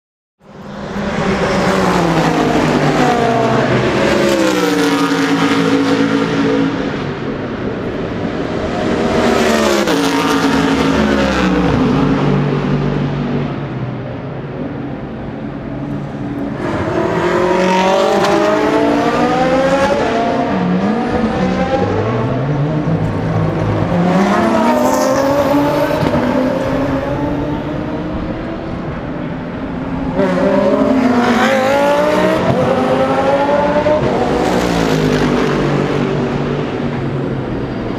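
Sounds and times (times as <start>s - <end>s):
race car engines accelerating: 0.5s - 37.9s.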